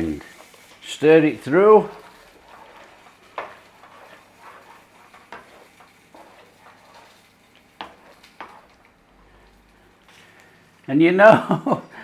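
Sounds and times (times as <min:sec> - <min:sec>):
spoon tapping and scraping pan: 0:00.0 - 0:10.5
faint simmering: 0:00.0 - 0:12.0.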